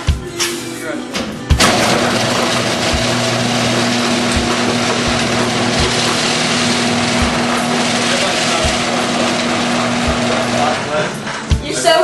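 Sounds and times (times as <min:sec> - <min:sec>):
garage door motor hum and rattle: 0:01.2 - 0:11.6.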